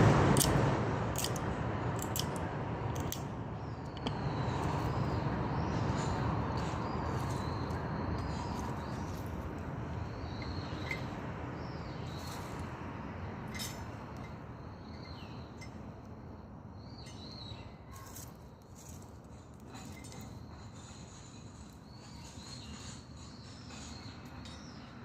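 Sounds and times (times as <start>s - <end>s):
birds chirping: 3.0s - 25.0s.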